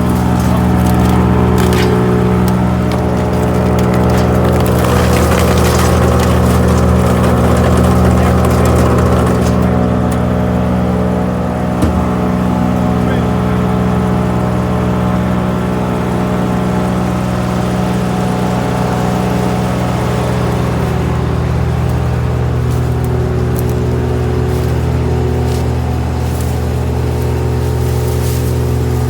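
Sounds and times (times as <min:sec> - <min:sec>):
wood chipper running: 0:00.0 - 0:29.0.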